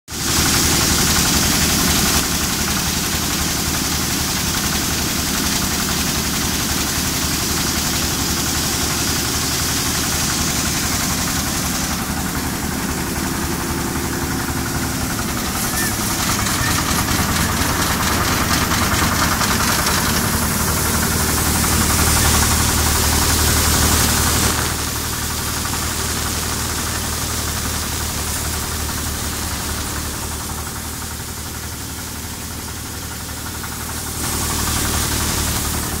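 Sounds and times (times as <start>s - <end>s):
thresher engine running: 0.1s - 36.0s
thresher rushing noise: 0.2s - 36.0s.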